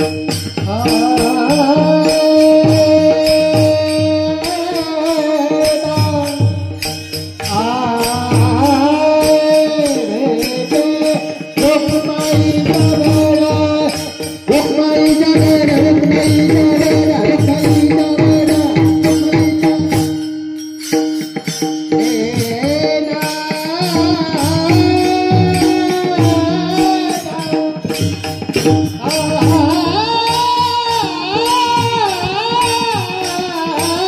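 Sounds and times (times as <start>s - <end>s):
jingling percussion: 0.0s - 34.0s
person singing devotional song: 0.0s - 34.0s
tabla-like drumming: 0.0s - 34.0s.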